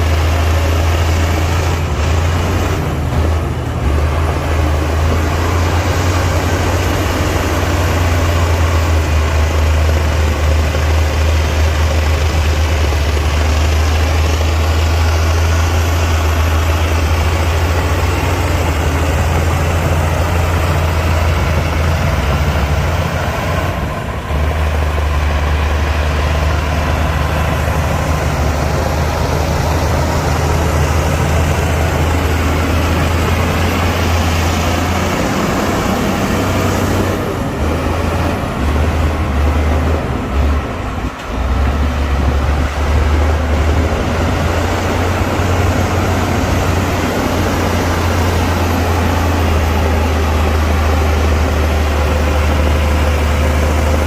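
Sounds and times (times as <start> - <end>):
heavy diesel engine humming: 0.0 - 54.0.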